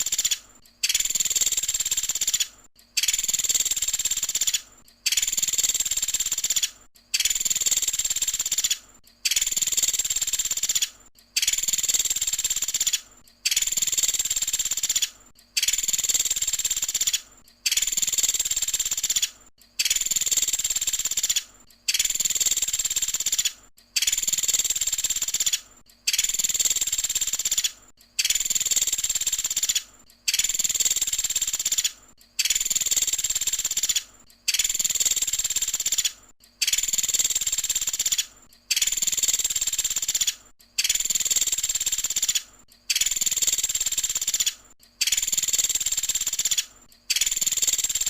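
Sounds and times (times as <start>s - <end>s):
woodpecker high-pitched trilling: 0.0s - 48.0s.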